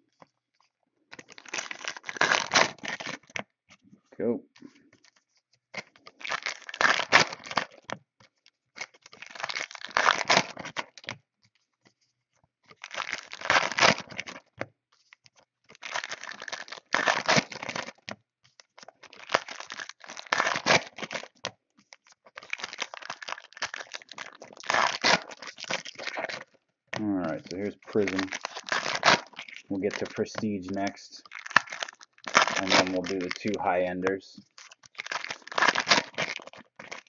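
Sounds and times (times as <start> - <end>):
foil wrappers tearing and crinkling: 1.1 - 3.4, 5.8 - 11.7, 12.6 - 37.0.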